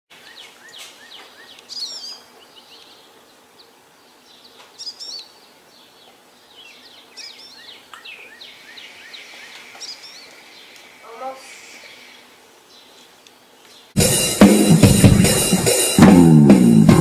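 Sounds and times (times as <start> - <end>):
steady background hiss: 0.1 - 17.0.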